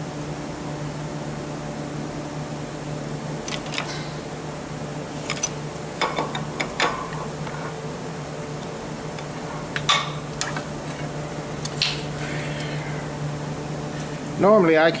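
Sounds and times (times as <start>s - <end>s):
low fan hum: 0.0s - 15.0s.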